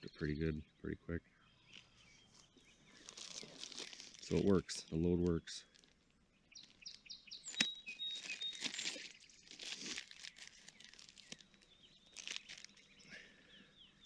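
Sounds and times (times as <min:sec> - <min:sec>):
small bird chirping: 0:00.0 - 0:14.0
rustling and crinkling: 0:01.6 - 0:13.2.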